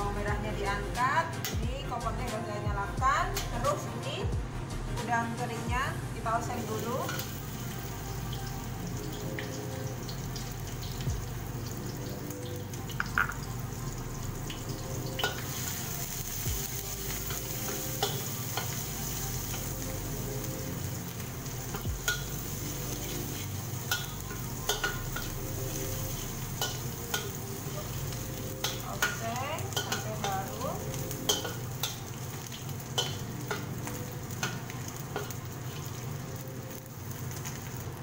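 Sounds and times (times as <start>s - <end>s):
shrimp sizzling in a wok: 6.3s - 38.0s.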